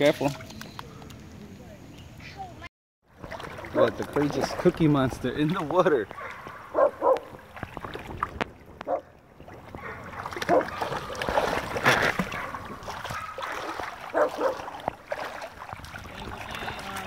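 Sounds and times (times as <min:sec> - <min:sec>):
water splashing around wading dog: 0:03.1 - 0:17.0.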